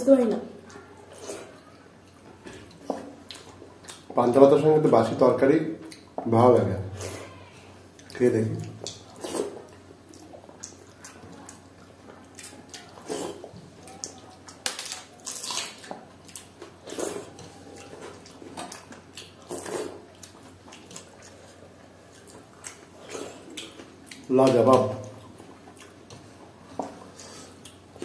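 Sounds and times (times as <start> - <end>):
chewing and lip smacks: 0.7 - 4.2, 7.9 - 28.0
wet squelching of hands eating: 0.7 - 4.2, 7.0 - 28.0.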